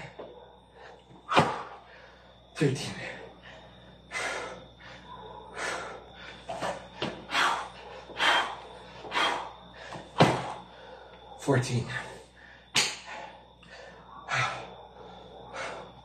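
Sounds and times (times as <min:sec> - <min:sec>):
man breathing hard and gasping: 0:00.0 - 0:16.0.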